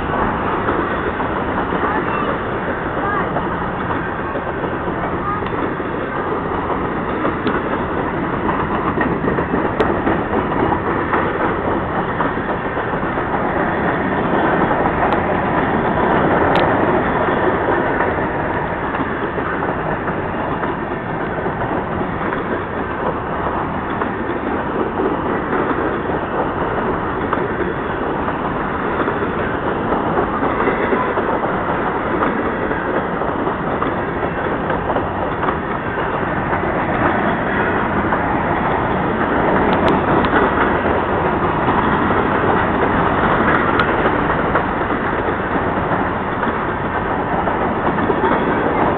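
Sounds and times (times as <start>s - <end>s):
freight train wheels clattering on rails: 0.0s - 48.9s.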